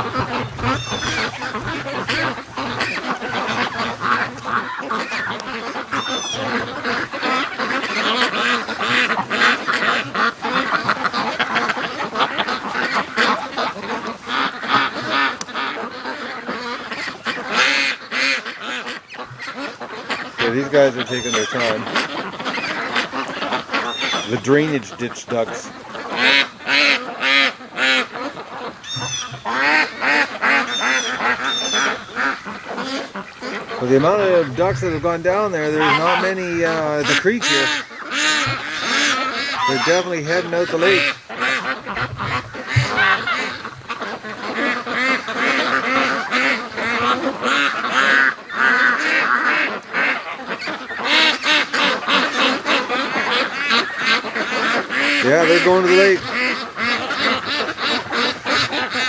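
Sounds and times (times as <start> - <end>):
high thin falling calls: 0.0 - 15.6, 19.2 - 26.8, 28.2 - 59.0
ducks quacking: 0.0 - 59.0.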